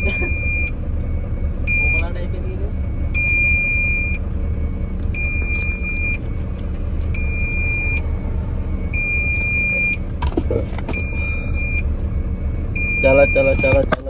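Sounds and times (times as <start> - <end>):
truck reverse warning beeps: 0.0 - 10.2, 10.9 - 14.0
diesel engine rumble: 0.0 - 14.0.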